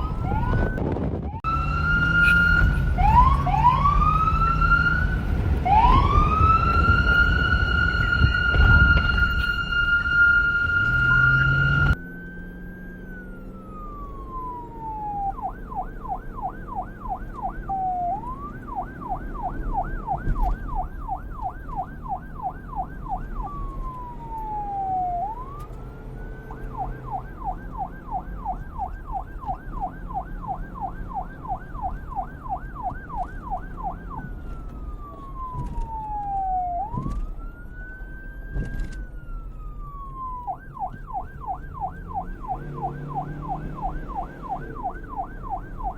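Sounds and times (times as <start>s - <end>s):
police siren wailing and yelping: 0.0s - 45.9s.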